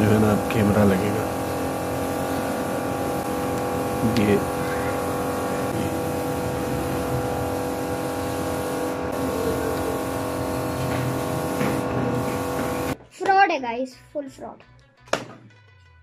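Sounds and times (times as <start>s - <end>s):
machine hum with held tones: 0.0s - 13.0s.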